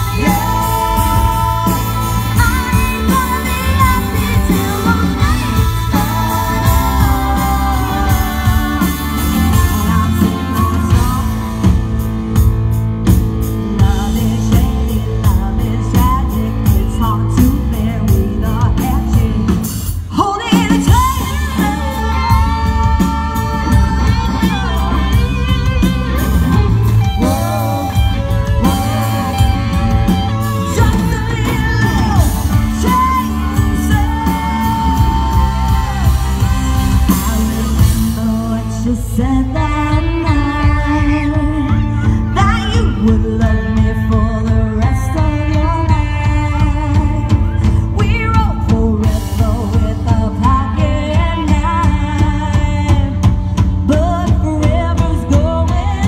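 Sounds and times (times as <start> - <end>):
country band playing live: 0.0 - 56.0
lead singer singing: 0.0 - 56.0.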